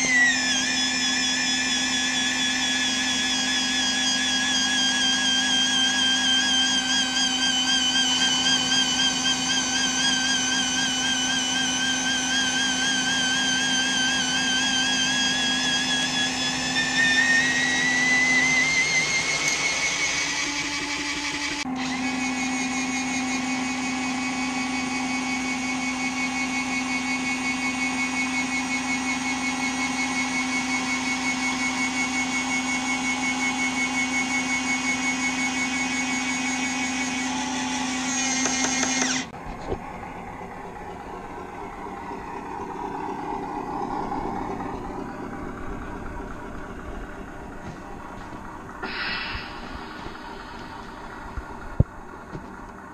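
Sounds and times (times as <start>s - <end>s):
hydraulic pump whining: 0.0s - 52.9s.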